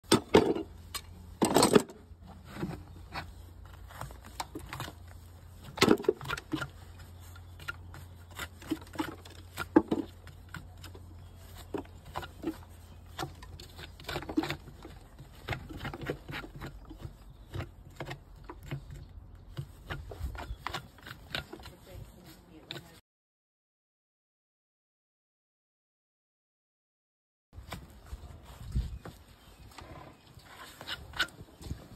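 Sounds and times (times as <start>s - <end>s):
hand tool scraping mud from hoof: 0.0s - 23.0s, 27.6s - 31.9s.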